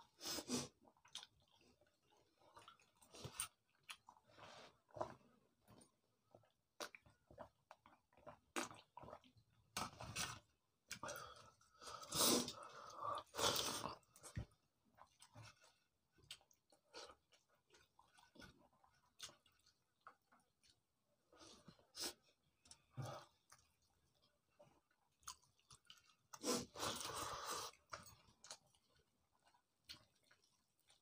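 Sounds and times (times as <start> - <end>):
person chewing with wet smacks: 0.7 - 11.8, 12.4 - 31.0.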